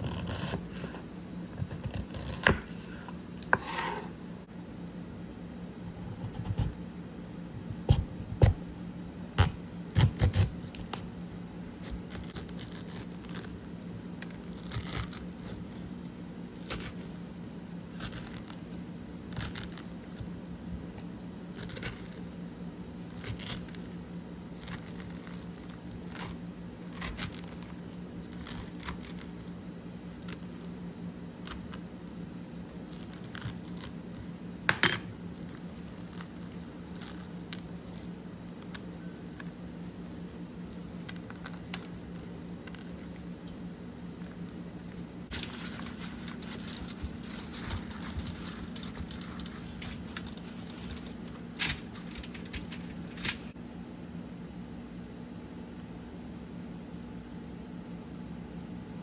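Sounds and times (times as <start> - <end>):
steady low hum: 0.0 - 59.0
eating and food handling: 5.9 - 53.6.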